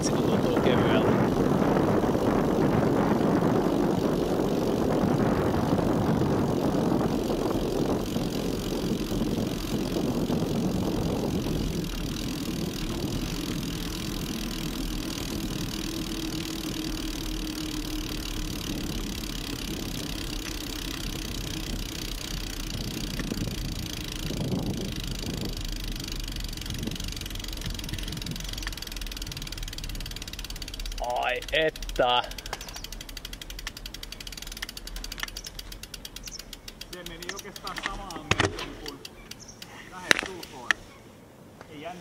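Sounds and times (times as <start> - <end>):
bike tyres rolling on asphalt: 0.0 - 42.0.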